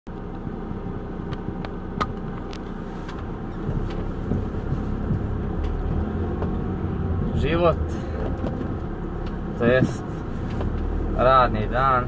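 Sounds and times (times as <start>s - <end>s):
van engine running: 0.1s - 12.0s.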